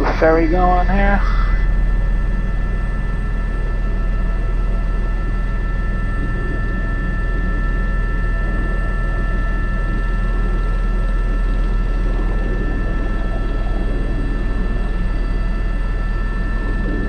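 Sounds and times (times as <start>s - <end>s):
helicopter rotor beat: 0.0s - 17.0s
turbine and gearbox whine: 0.0s - 17.0s.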